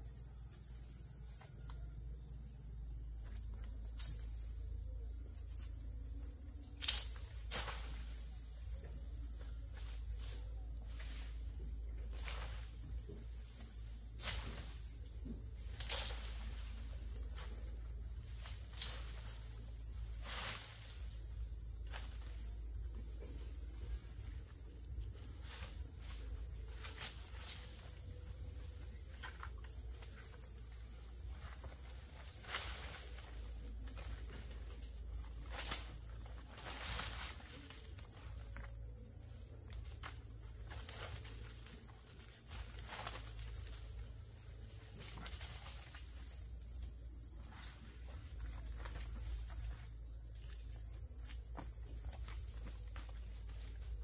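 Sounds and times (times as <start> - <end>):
insects stridulating: 0.0 - 54.0.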